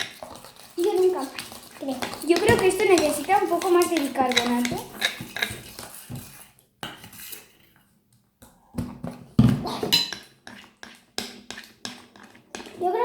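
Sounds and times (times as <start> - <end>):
utensil scraping in bowl of slime: 0.0 - 7.9, 9.0 - 13.0.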